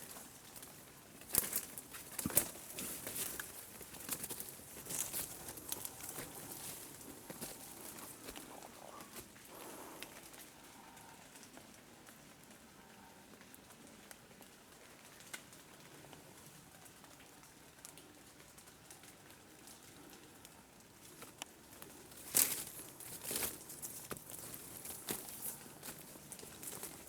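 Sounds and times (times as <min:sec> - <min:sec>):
rustling and crackling: 0:00.0 - 0:12.7, 0:13.4 - 0:27.0
faint patter and ticks: 0:00.0 - 0:27.0.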